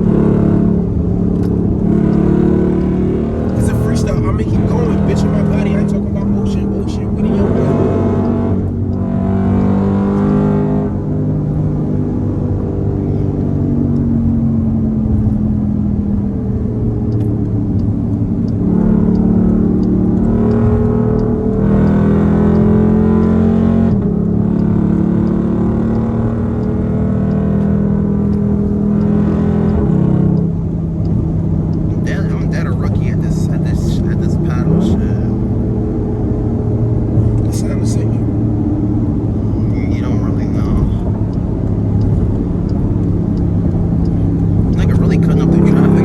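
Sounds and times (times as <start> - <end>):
car exhaust under hard acceleration: 0.0 - 46.0.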